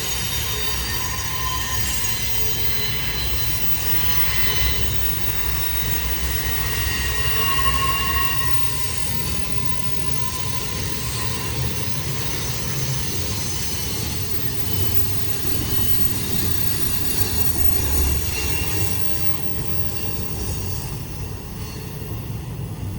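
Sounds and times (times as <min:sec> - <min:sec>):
high wheel squeal: 0:00.0 - 0:22.6
train wheels rumbling on rails: 0:00.0 - 0:22.9.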